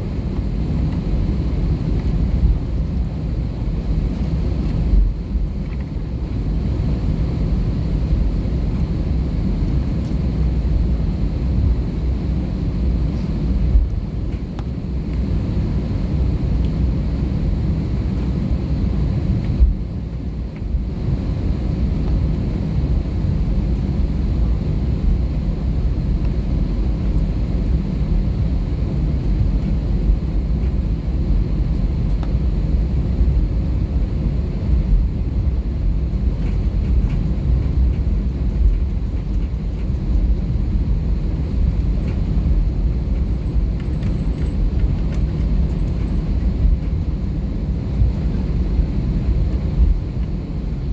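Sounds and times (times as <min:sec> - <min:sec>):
aircraft engine rumble in cabin: 0:00.0 - 0:50.9.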